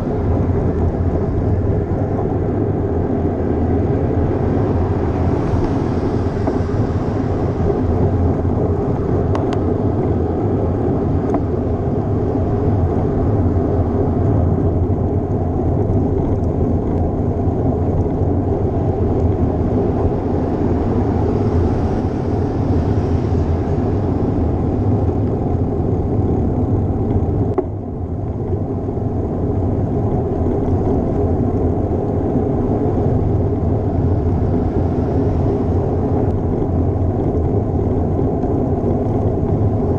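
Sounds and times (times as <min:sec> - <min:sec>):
bicycle tyre noise on road: 0:00.0 - 0:39.9
wind on microphone: 0:00.0 - 0:39.9.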